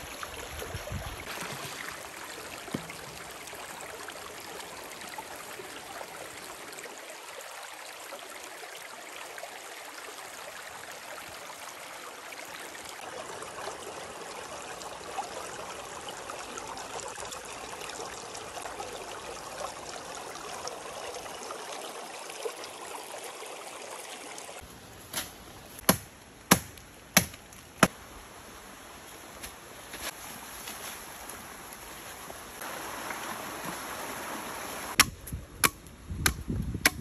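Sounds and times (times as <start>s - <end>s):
running water rushing: 0.0s - 24.7s, 27.8s - 35.0s.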